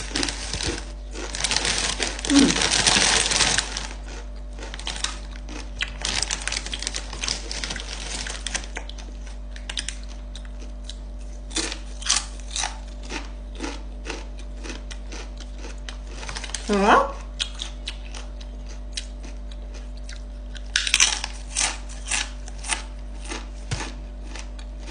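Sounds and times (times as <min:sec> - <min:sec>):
chip bag crinkling: 0:00.0 - 0:24.9
tortilla chips crunching: 0:00.0 - 0:24.9.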